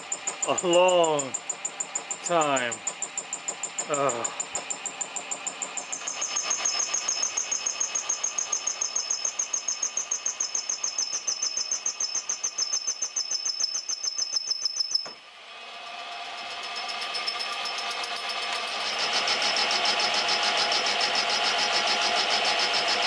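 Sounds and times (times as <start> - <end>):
lathe running hum: 0.0 - 13.2, 15.2 - 23.0.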